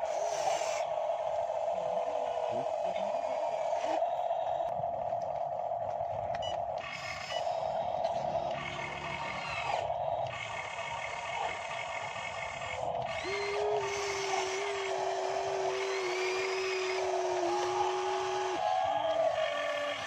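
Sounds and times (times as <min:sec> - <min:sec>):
model excavator motors whining: 0:00.0 - 0:20.0.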